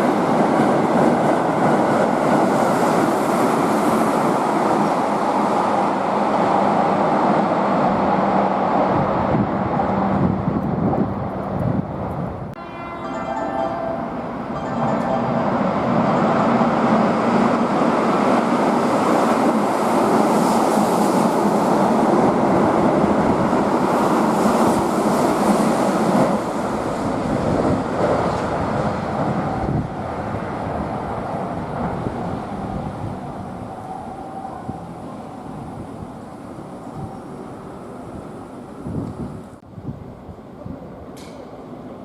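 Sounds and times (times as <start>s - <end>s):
electric train passing at speed: 0.0s - 42.0s.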